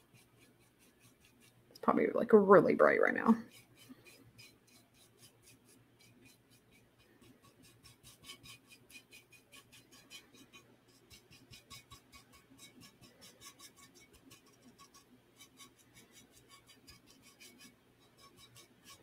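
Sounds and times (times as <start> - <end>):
paintbrush strokes: 0.0 - 19.0.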